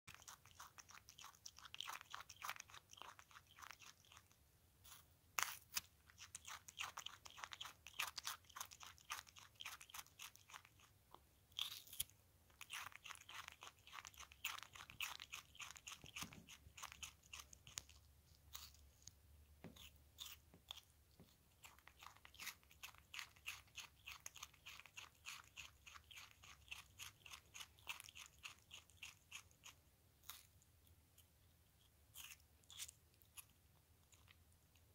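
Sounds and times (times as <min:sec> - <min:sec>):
possum chewing crunches: 0:00.1 - 0:34.9.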